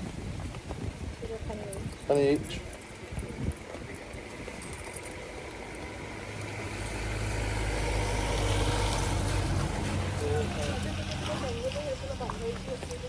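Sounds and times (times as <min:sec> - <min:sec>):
vehicle engine humming: 0:02.2 - 0:13.0.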